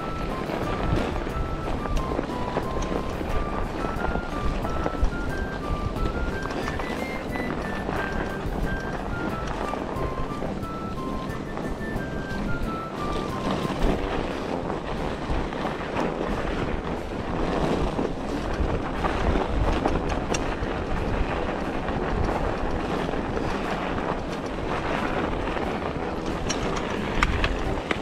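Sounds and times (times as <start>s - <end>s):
bike clicks: 0.0s - 28.0s
bike rolling over rough trail: 0.0s - 28.0s
wind on microphone: 0.0s - 28.0s.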